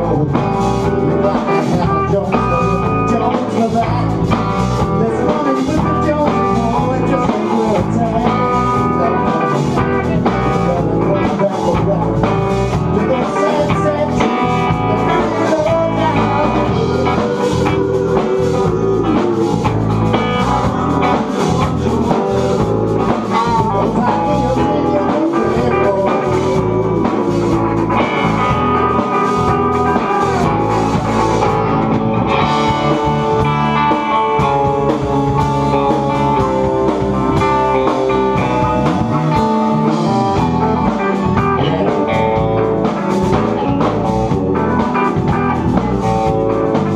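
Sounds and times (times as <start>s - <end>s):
live blues-rock band: 0.0s - 46.9s.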